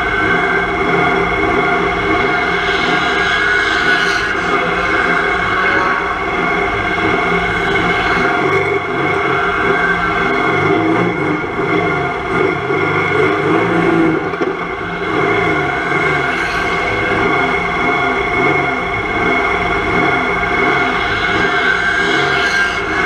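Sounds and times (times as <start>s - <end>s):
racing car engine running: 0.0s - 23.0s.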